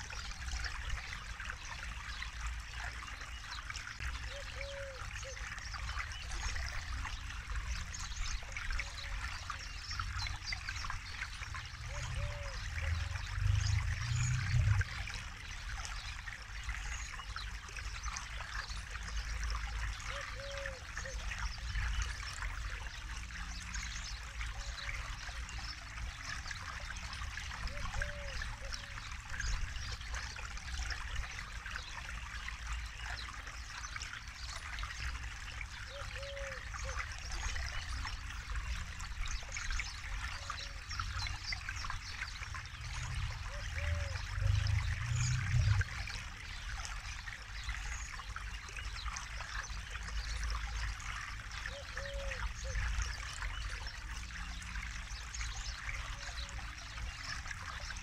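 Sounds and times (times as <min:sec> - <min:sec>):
low water rumble: 0:00.0 - 0:58.0
river babbling over stones: 0:00.0 - 0:58.0.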